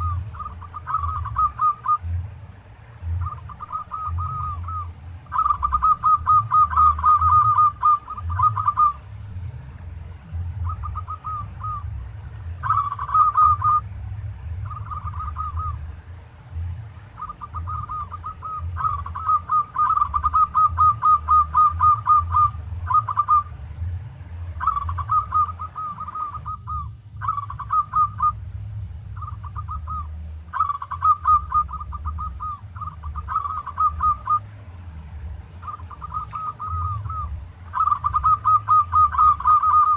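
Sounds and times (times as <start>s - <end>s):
dove cooing: 0.0s - 39.9s
steady low hum: 0.0s - 39.9s.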